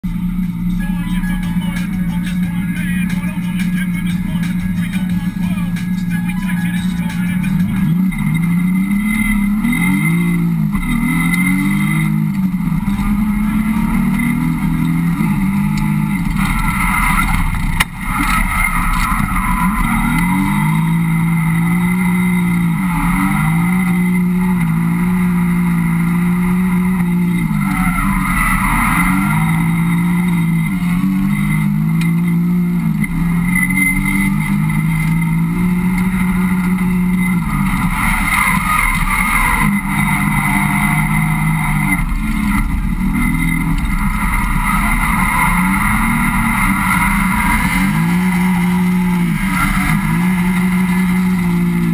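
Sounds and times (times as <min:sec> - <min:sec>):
car engine shifting gears: 0:00.0 - 0:51.9.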